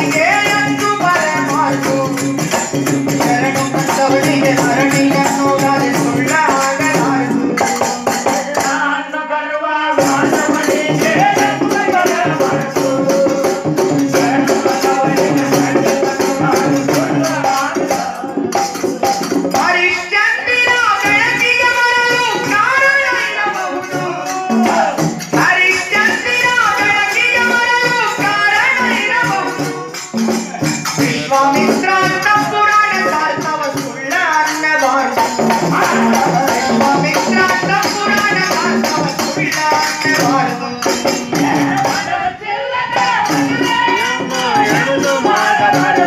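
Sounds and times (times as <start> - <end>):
jingling percussion beat: 0.0 - 9.1, 9.9 - 46.0
man singing devotional song: 0.0 - 46.0.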